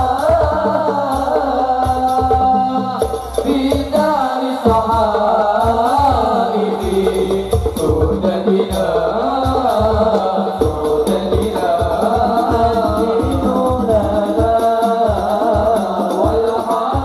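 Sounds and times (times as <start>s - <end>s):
hand drum rhythm: 0.0s - 17.0s
men singing devotional song: 0.0s - 17.0s.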